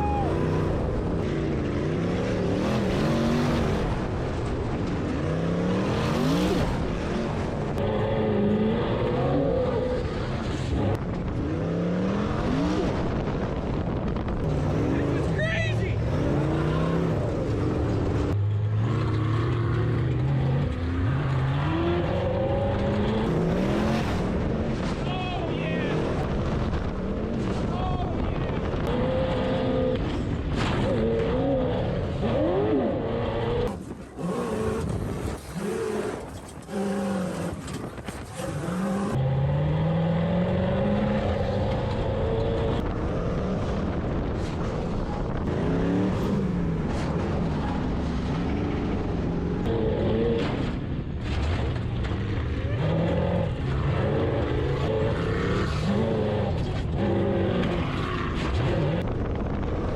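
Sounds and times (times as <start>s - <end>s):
sand car engine revving: 0.0s - 59.9s.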